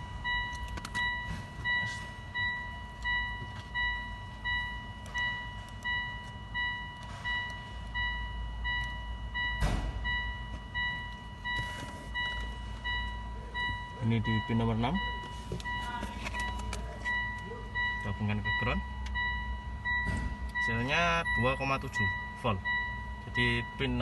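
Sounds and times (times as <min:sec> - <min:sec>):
high electronic beeping: 0:00.0 - 0:24.0.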